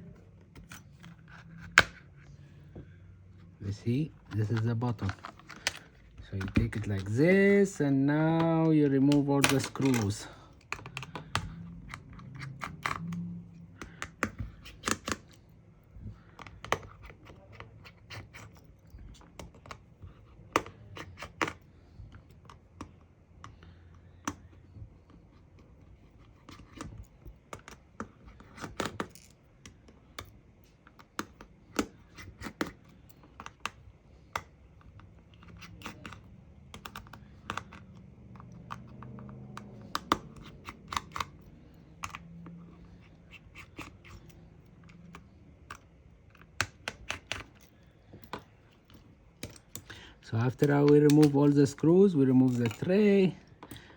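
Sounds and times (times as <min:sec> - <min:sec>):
small tools clicking on plastic: 0:04.3 - 0:53.9.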